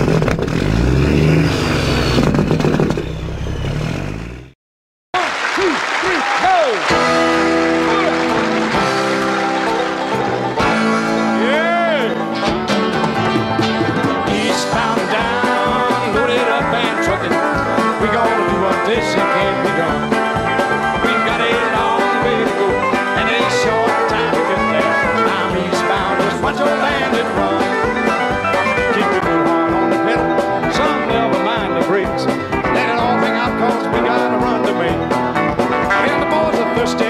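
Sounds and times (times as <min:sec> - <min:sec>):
country music with plucked strings: 0:06.9 - 0:37.0.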